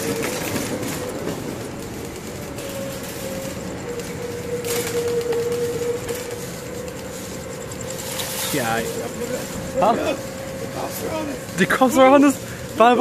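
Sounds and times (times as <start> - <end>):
shopping cart wheels rattling: 0.0 - 13.0
steady whine: 0.0 - 13.0.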